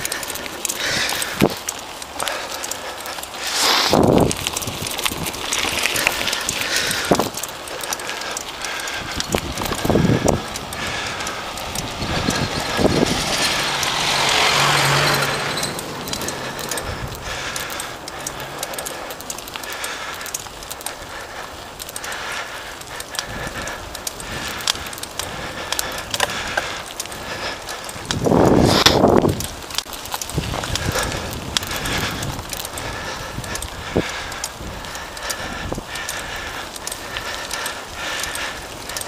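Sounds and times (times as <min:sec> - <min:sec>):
bike rattles and clicks: 0:00.0 - 0:39.0
bike tyres crunching on gravel: 0:00.0 - 0:39.0.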